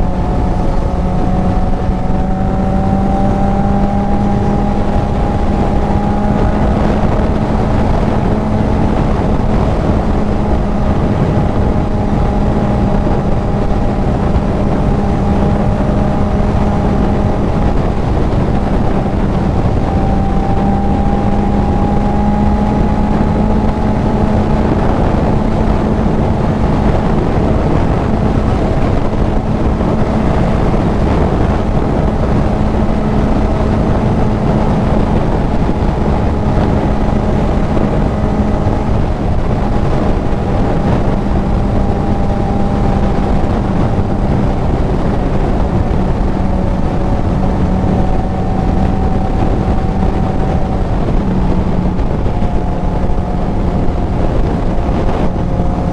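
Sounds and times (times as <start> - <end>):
motorcycle engine cruising: 0.0 - 55.9
wind rush on microphone: 0.0 - 55.9.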